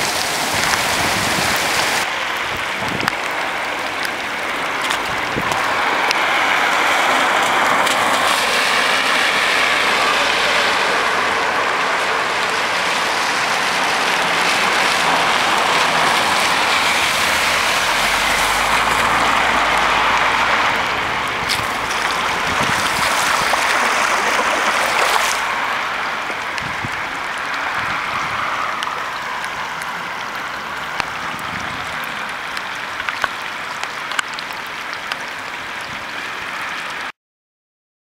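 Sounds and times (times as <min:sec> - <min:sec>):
torrential rain on road: 0:00.0 - 0:37.1
water running over tarmac: 0:00.0 - 0:37.1.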